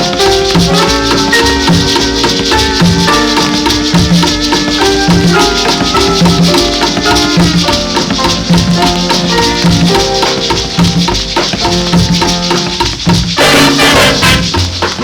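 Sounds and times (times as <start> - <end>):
melodic notes: 0.0 - 13.4
maracas shaking: 0.0 - 15.0
steady bass line: 0.0 - 15.0.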